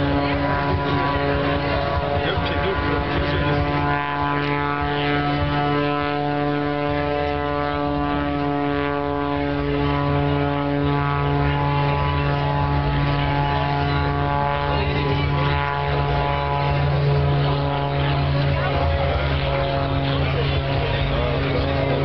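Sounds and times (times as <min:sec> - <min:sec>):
propeller plane droning overhead: 0:00.0 - 0:22.0.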